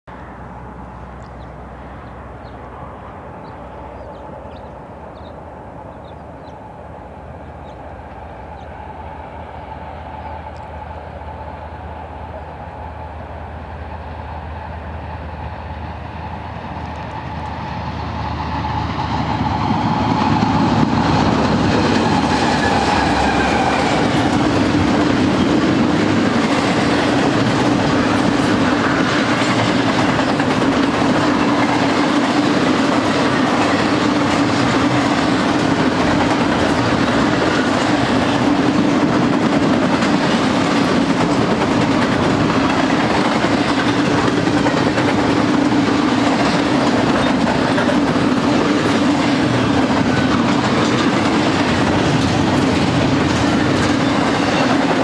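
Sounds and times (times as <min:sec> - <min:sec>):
freight train approaching: 0:00.0 - 0:55.0
train wheels on rails: 0:00.2 - 0:55.0.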